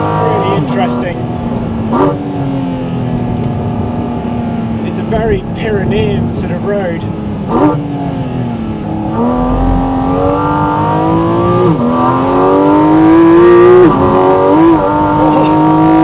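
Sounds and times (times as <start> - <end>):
sports car engine revving: 0.0 - 6.4, 7.0 - 16.0.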